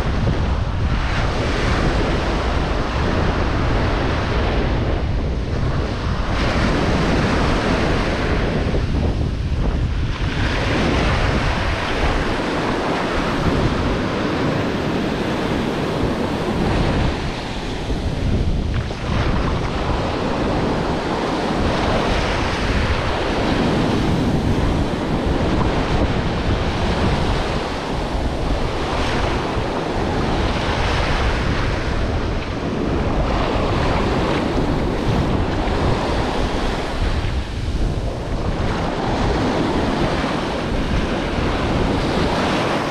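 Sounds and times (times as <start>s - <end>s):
surf breaking on beach: 0.0s - 42.9s
wind buffeting microphone: 0.0s - 42.9s.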